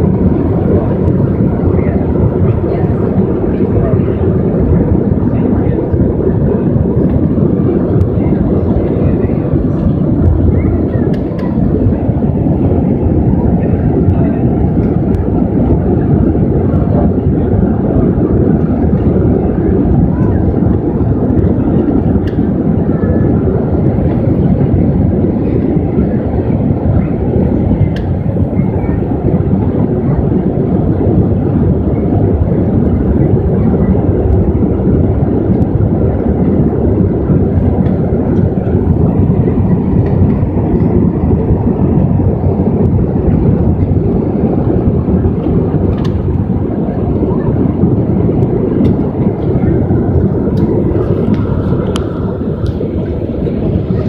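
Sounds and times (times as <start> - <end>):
airliner engine rumble in cabin: 0.0 - 54.0.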